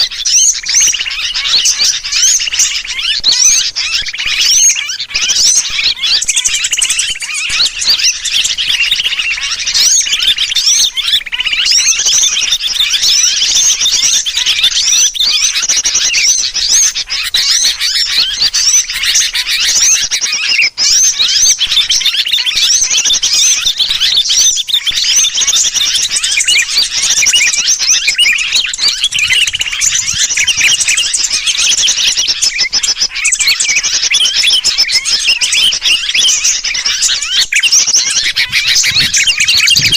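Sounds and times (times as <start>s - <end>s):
bird distress calls: 0.0s - 39.9s
flock of small birds chattering: 0.0s - 39.9s.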